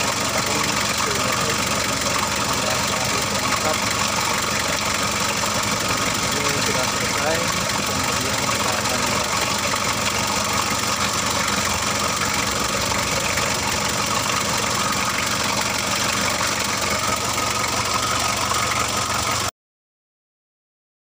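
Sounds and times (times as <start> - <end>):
diesel engine idling: 0.0 - 19.5.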